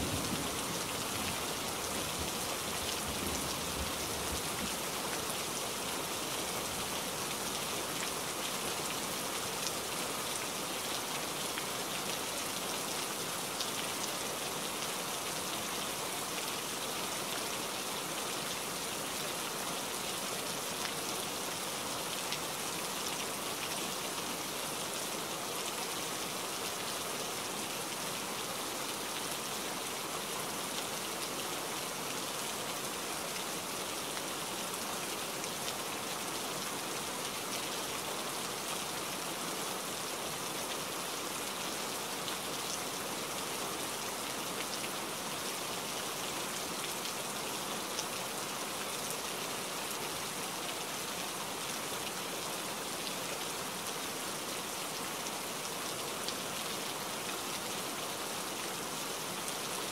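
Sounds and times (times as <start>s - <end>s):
rain falling on foliage: 0.0s - 59.9s.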